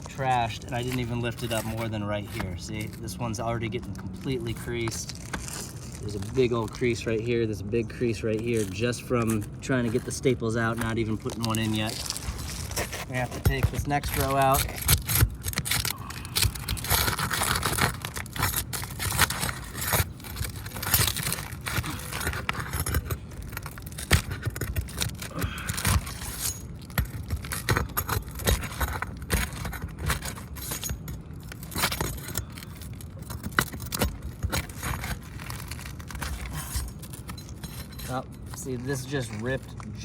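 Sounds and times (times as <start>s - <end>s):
hand tools scraping roof shingles: 0.0s - 7.2s, 8.0s - 40.0s
sharp knocks and rasps: 0.0s - 7.4s, 8.0s - 39.9s.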